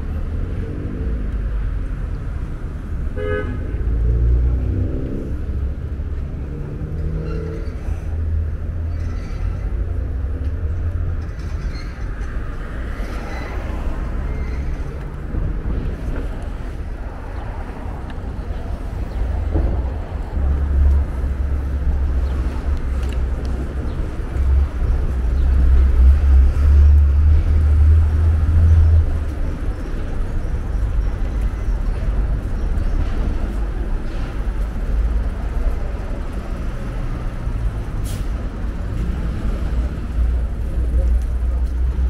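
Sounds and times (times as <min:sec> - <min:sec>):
city street traffic rumble: 0:00.0 - 0:42.0.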